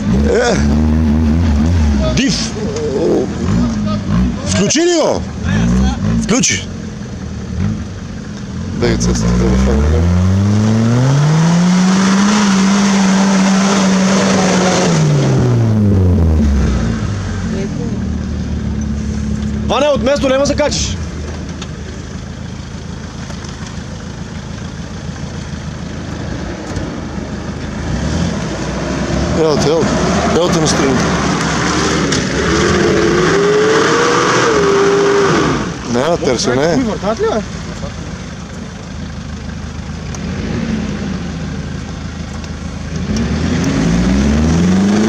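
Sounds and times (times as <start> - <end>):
off-road vehicle engine running: 0.0 - 45.0.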